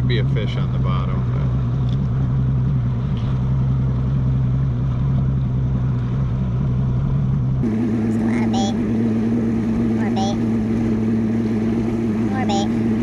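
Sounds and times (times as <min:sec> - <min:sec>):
outboard engine drone: 0:00.0 - 0:13.0.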